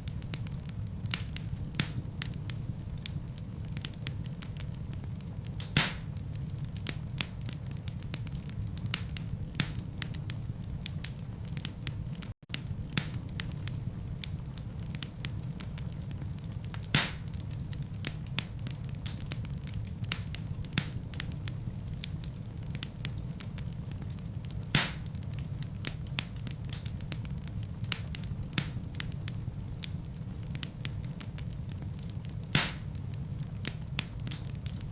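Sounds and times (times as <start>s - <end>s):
loud fire pops: 0.0s - 34.9s
wood fire crackling: 0.0s - 34.9s.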